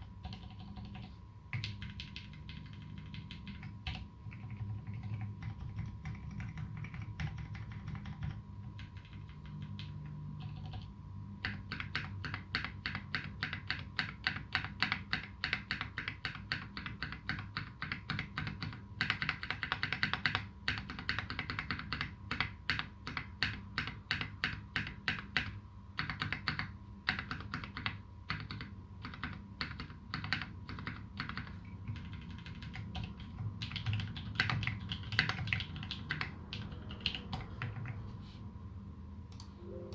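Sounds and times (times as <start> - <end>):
typing on mechanical keyboard: 0.0 - 38.1
faint steady hum: 0.0 - 39.9.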